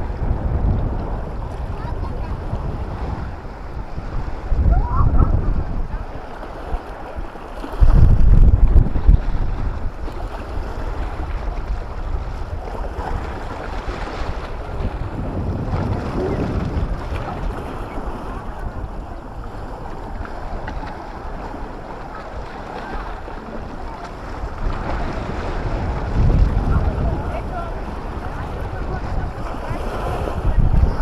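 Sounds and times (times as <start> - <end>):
sea waves: 0.0 - 31.0
wind buffeting microphone: 0.0 - 31.0.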